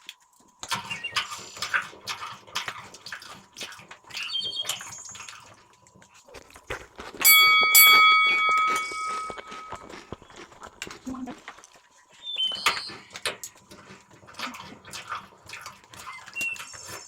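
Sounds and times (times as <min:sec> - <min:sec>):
chewing and mouth smacks: 0:00.0 - 0:17.0.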